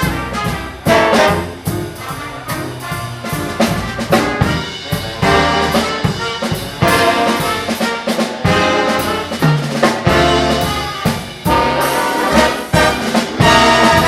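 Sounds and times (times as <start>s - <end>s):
big band playing swing: 0.0s - 14.0s.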